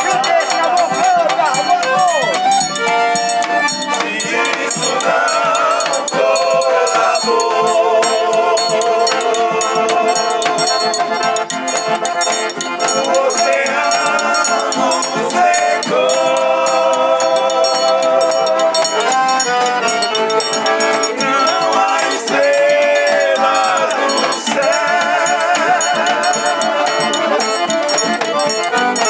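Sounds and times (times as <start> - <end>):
accordion playing: 0.0 - 29.0
acoustic guitar: 0.0 - 29.0
men singing together: 0.0 - 29.0.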